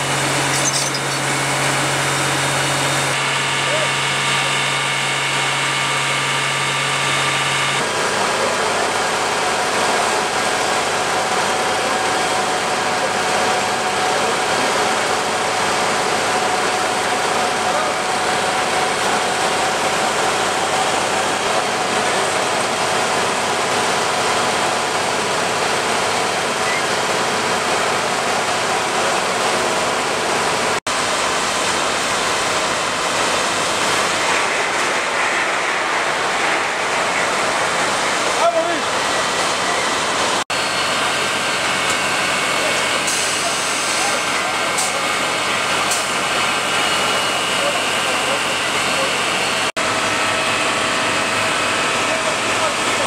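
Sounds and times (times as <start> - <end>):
fire truck engines running: 0.0 - 53.0.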